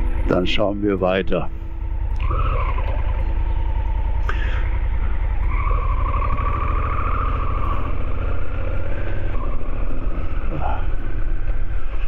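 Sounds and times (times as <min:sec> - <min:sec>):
higher engine whine: 0:00.0 - 0:12.0
motorcycle engine low rumble: 0:00.0 - 0:12.0.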